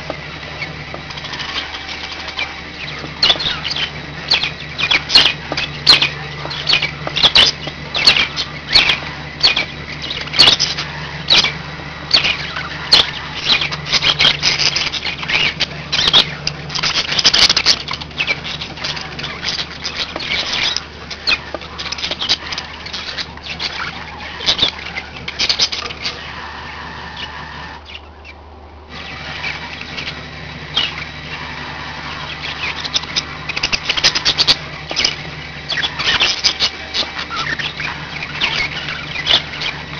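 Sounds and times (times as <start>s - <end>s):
budgies chattering: 0.0s - 39.9s.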